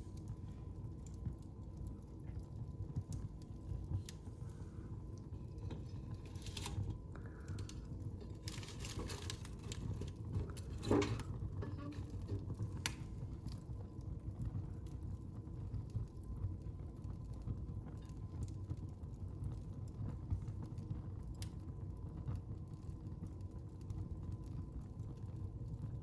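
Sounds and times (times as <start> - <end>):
fire rumbling: 0.0 - 26.0
wood fire crackling and popping: 0.0 - 26.0.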